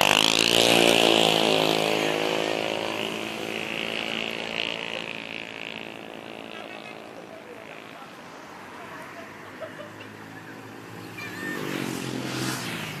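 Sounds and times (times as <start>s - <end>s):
bus diesel engine passing: 0.0s - 13.0s.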